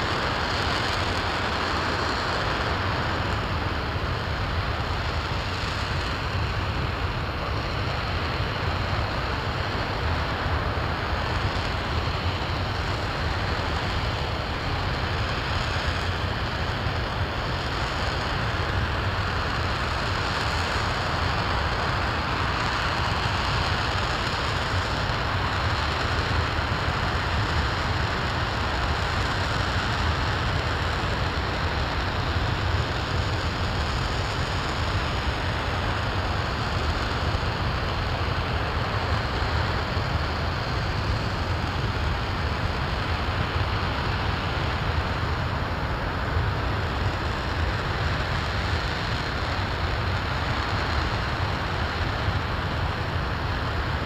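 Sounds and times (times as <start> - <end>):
rocket engine roaring: 0.0 - 54.0.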